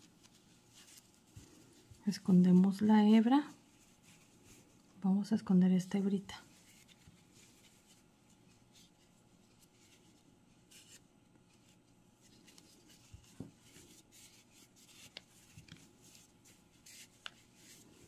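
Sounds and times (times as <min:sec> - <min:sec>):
yarn rustling through stitches: 0:00.0 - 0:18.0.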